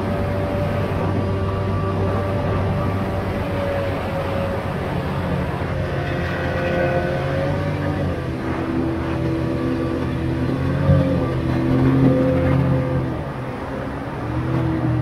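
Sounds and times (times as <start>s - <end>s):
outboard engine running: 0.0s - 15.0s
water rushing along hull: 0.0s - 15.0s.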